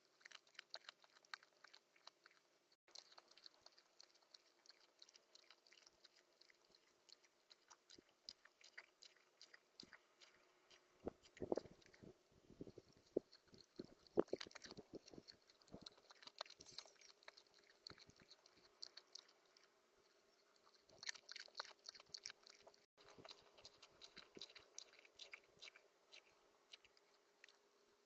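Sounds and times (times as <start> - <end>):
rodent chewing and cracking seeds: 0.0 - 28.0.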